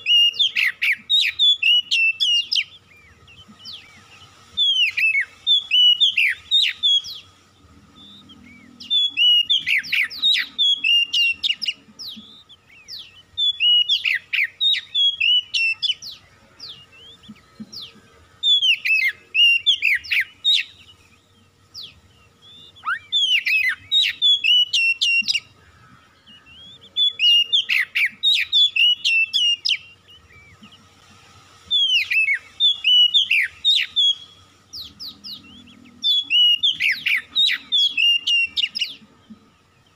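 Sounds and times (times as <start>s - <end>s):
bird whistling song: 0.0s - 31.0s, 31.6s - 39.9s.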